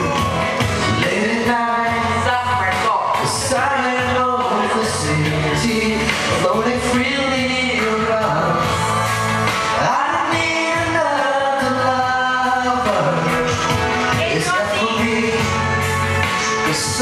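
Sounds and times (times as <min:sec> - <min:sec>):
man singing into microphone: 0:00.0 - 0:08.9, 0:09.6 - 0:17.0
pop backing track: 0:00.0 - 0:17.0.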